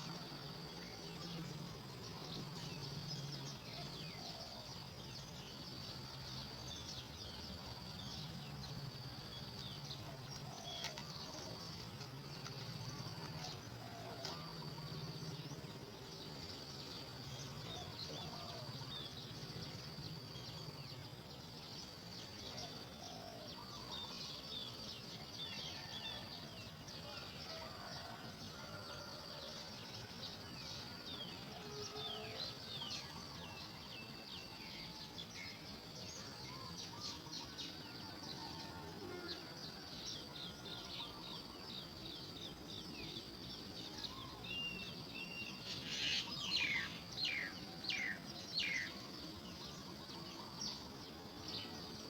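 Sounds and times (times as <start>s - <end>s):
high insect drone: 0.0s - 52.0s.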